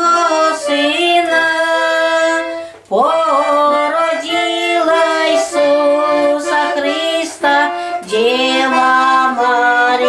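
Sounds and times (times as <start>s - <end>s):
woman singing a carol: 0.0s - 10.0s.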